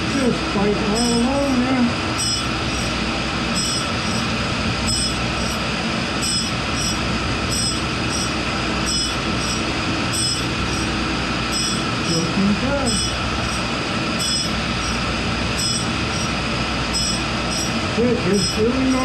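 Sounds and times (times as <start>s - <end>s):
grinding wheel hissing and ringing: 0.0s - 19.0s
machine hum: 0.0s - 19.0s.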